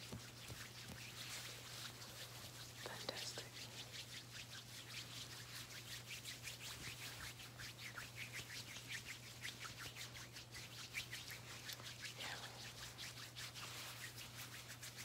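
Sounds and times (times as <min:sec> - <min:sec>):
hands rubbing over microphone: 0:00.0 - 0:15.0
low electrical hum: 0:00.0 - 0:15.0.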